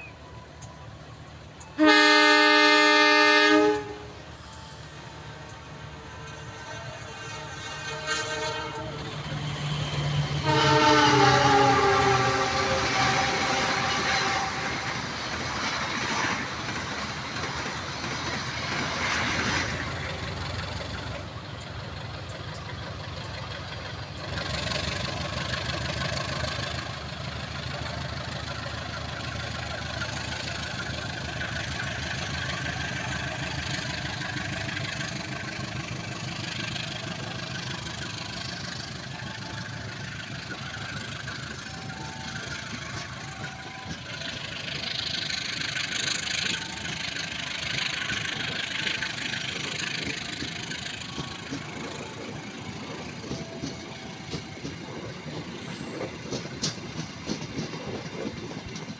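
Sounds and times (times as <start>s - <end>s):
locomotive engine rumbling: 0.0s - 58.9s.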